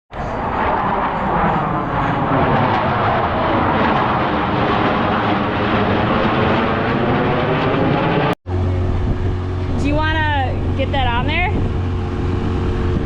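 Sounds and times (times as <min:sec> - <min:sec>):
jet aircraft roar: 0:00.1 - 0:13.0.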